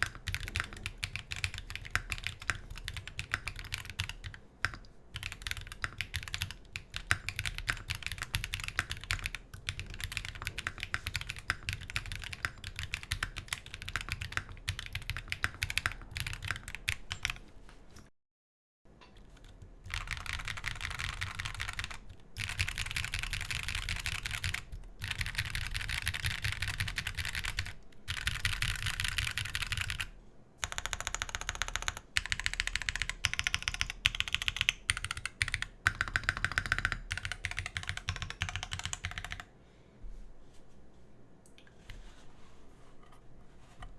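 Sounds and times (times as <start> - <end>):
fast typing on mechanical keyboard: 0.0 - 17.4, 19.2 - 39.5.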